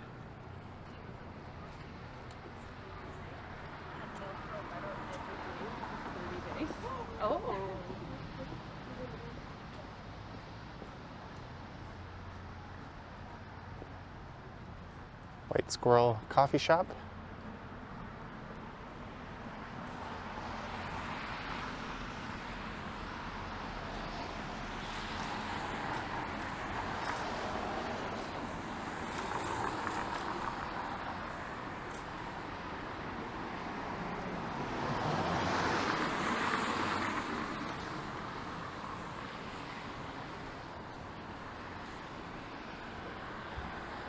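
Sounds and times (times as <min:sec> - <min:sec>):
cars passing on wet road: 0:01.5 - 0:12.9, 0:16.7 - 0:44.0.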